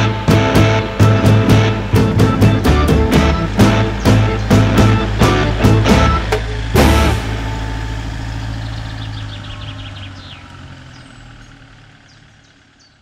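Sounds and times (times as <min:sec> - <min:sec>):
birds chirping: 0:00.0 - 0:13.0
vehicle engine hum: 0:00.0 - 0:13.0.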